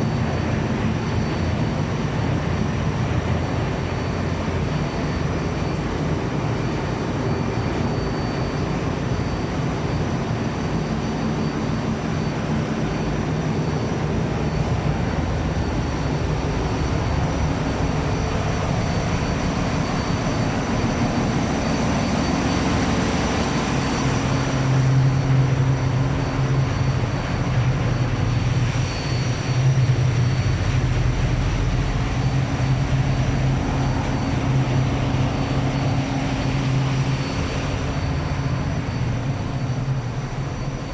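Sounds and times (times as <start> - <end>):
engine room machinery roar: 0.0 - 40.9
high-pitched machinery whines: 0.0 - 40.9.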